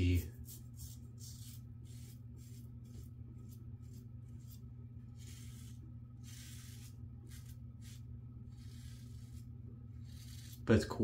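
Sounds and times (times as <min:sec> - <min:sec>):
steady low hum: 0:00.0 - 0:11.0
razor scraping stubble: 0:00.4 - 0:11.0.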